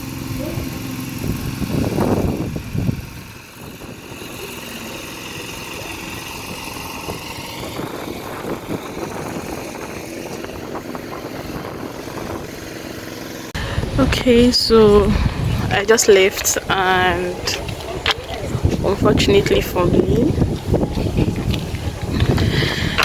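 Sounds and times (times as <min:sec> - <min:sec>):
wind on microphone: 0:00.0 - 0:13.0, 0:13.6 - 0:23.0
vehicle engine and road noise: 0:00.0 - 0:23.0.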